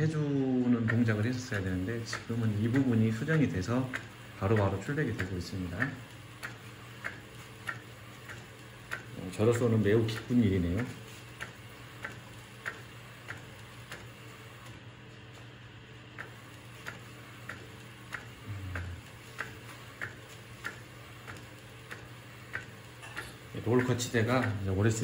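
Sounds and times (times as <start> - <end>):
printer clicks: 0.0 - 14.8, 16.2 - 25.0.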